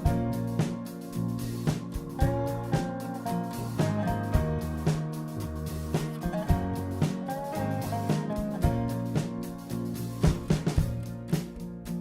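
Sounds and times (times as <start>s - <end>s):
band music with guitar and drums: 0.0s - 12.0s.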